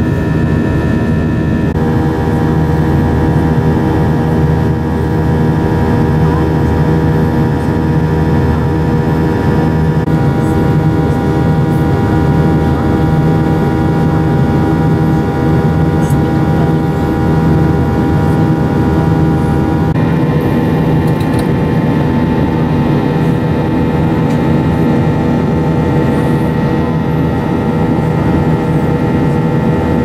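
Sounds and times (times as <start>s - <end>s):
jet engines droning in cabin: 0.0s - 30.0s.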